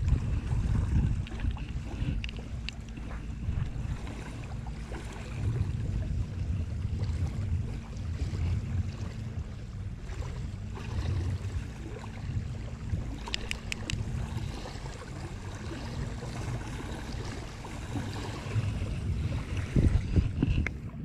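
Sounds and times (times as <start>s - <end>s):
small waves lapping: 0.0s - 21.0s
wind buffeting microphone: 0.0s - 21.0s.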